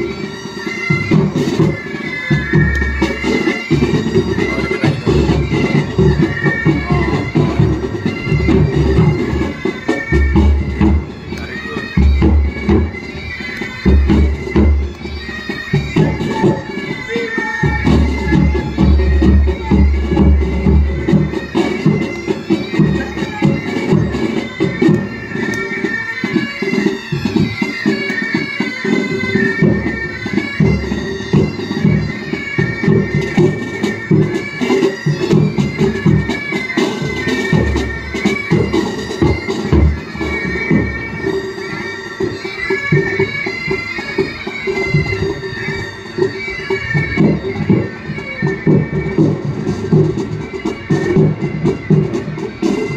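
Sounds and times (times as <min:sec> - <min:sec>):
bagpipes playing melody: 0:00.0 - 0:52.9
side drums beating: 0:00.0 - 0:52.9.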